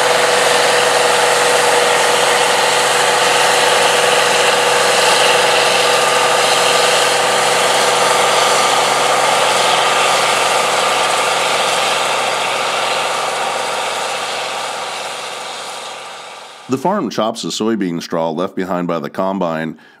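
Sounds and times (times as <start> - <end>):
combine harvester engine drone: 0.0 - 17.0
steady machinery whine: 0.0 - 17.0.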